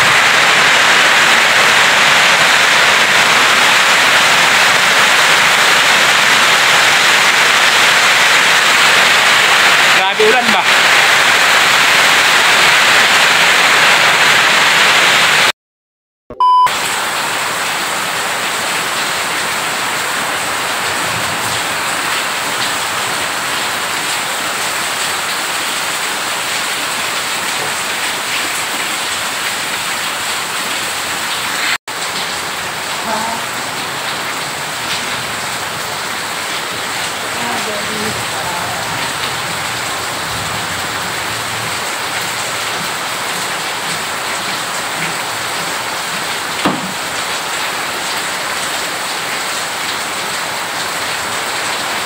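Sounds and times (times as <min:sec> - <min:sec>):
heavy rain pouring: 0:00.0 - 0:15.5, 0:16.7 - 0:52.0.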